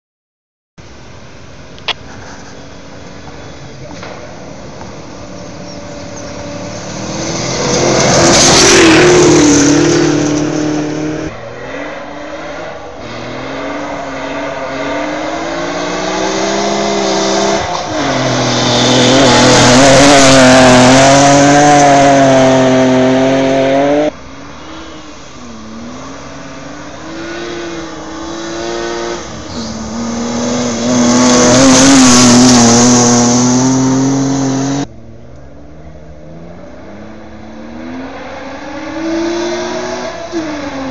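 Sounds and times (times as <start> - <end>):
rally cars passing at high revs: 3.4 - 40.9.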